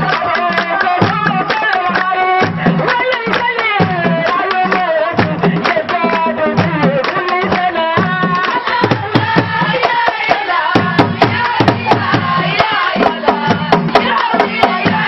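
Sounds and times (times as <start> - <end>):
percussion beat with drum thuds: 0.0 - 15.0
woman chanting into microphone: 0.0 - 15.0.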